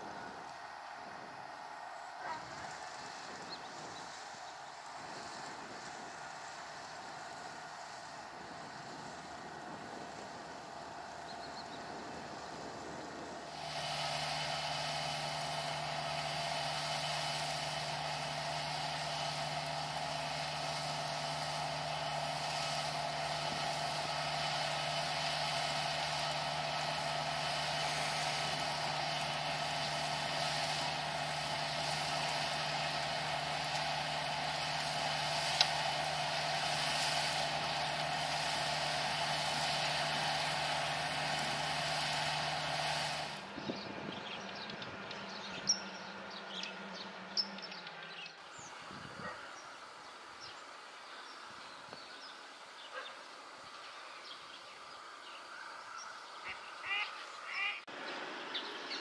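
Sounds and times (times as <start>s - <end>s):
combine harvester running: 0.0s - 50.5s.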